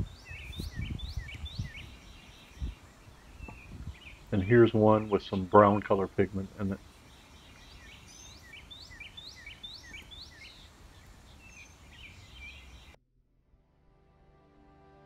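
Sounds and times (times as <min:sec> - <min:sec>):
faint outdoor background noise: 0:00.0 - 0:13.0
songbird rising chirps: 0:00.0 - 0:13.0.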